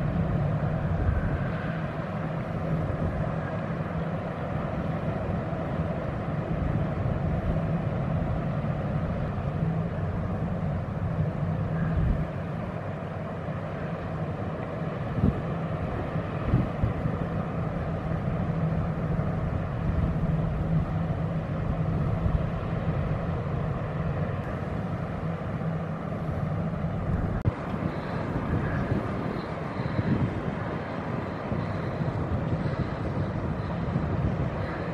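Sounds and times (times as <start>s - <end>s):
ship engines droning: 0.0s - 34.9s.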